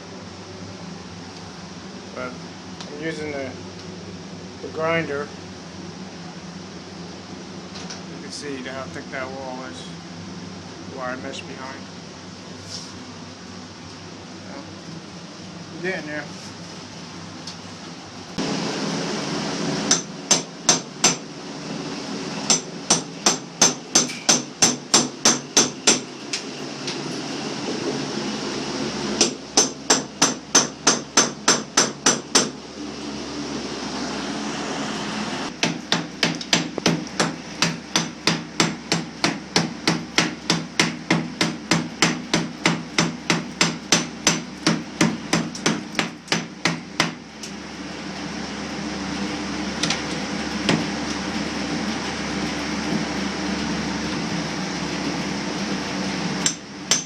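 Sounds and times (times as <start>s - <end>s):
fan humming: 0.0s - 57.0s.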